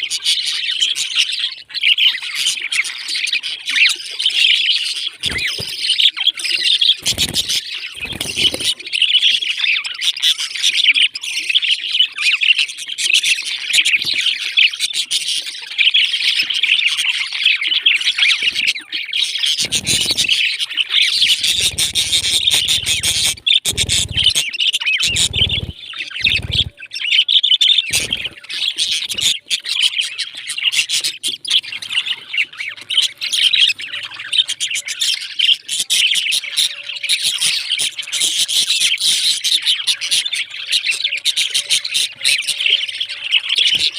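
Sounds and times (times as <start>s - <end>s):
parrots chirping and chattering: 0.0s - 43.9s.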